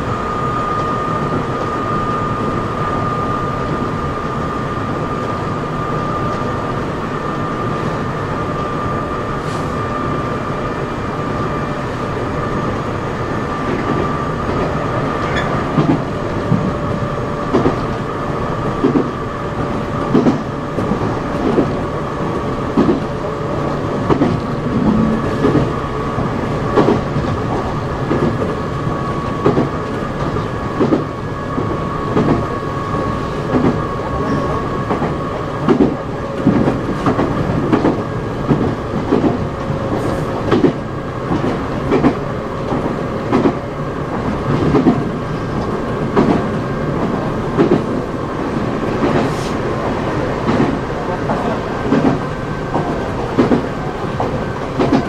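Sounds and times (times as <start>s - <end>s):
rumble of train wheels: 0.0s - 55.0s.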